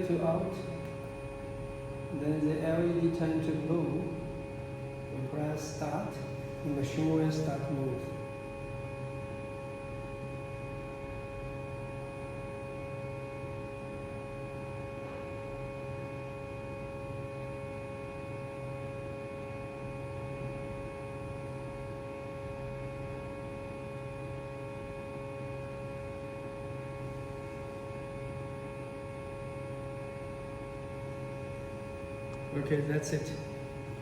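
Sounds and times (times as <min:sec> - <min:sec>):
low intermittent hum: 0:00.0 - 0:34.0
steady electrical hum: 0:00.0 - 0:34.0.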